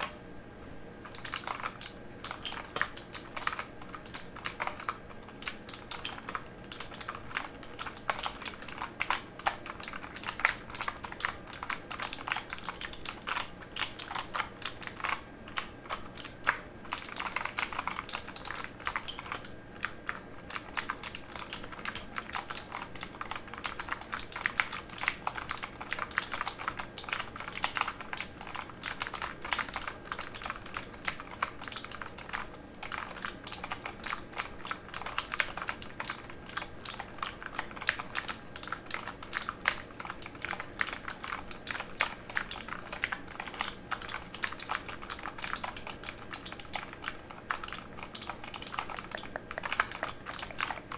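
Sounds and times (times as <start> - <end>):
typing on mechanical keyboard: 1.0 - 50.9.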